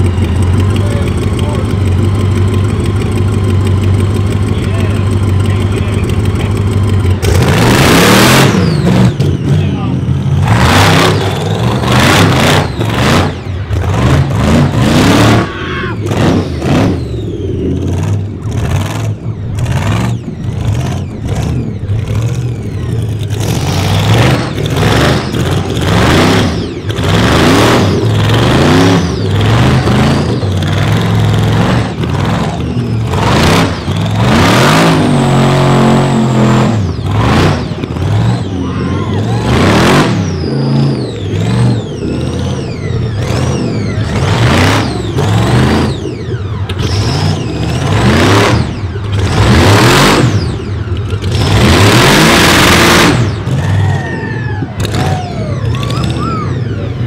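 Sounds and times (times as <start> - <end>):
buggy engine revving hard: 0.0 - 57.0.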